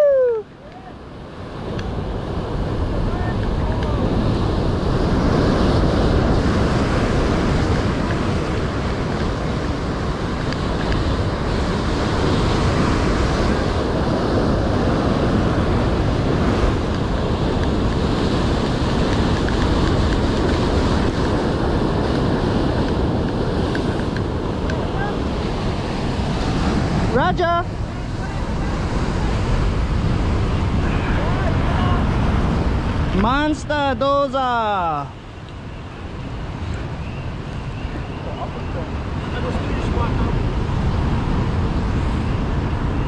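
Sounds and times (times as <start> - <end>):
rough surf: 0.0 - 43.0
wind buffeting microphone: 0.0 - 43.0.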